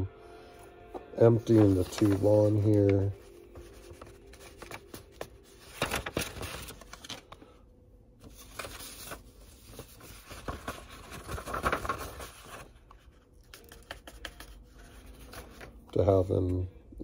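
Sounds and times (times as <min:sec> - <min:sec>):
paper rustling and crinkling: 0:01.2 - 0:07.6, 0:08.2 - 0:16.7.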